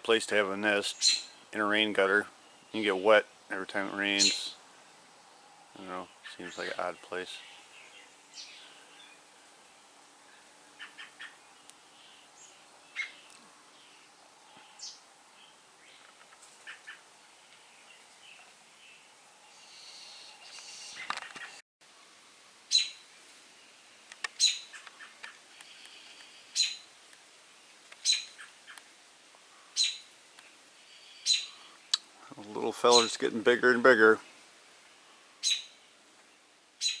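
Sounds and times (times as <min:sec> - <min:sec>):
songbird chirping: 0:00.1 - 0:21.6, 0:22.6 - 0:37.0.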